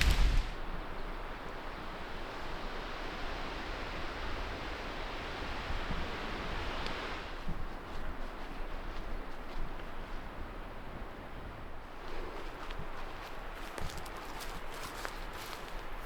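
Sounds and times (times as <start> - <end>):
strong wind through trees: 0.0 - 16.0.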